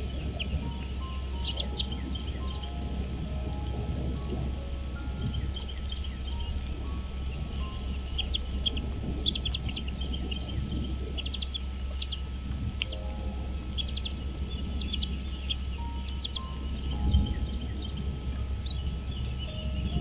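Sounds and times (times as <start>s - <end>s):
birds chirping: 0.0s - 20.0s
low background rumble: 0.0s - 20.0s.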